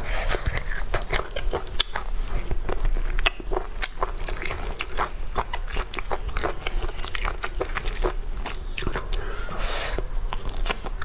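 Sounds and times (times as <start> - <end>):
person chewing meat: 0.0 - 11.0.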